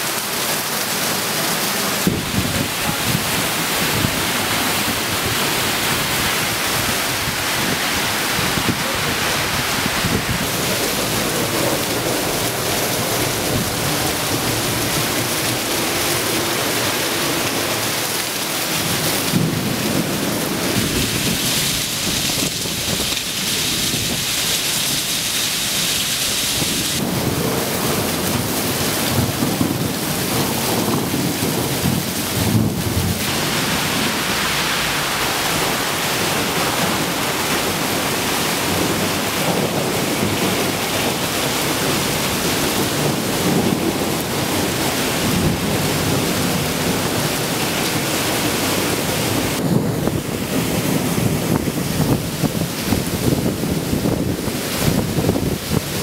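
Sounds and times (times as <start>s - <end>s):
heavy rain on pavement and cars: 0.0s - 56.0s.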